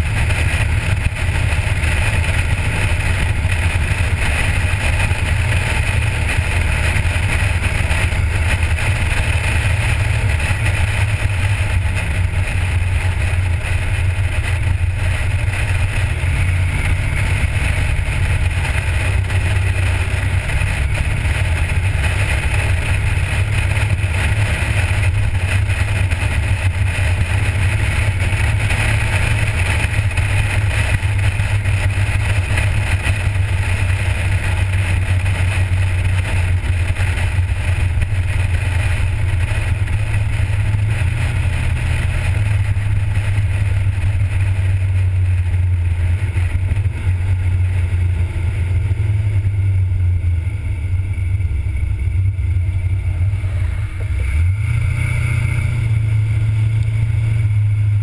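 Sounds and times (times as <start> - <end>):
car engine droning: 0.0 - 58.0
road and wind noise: 0.0 - 58.0.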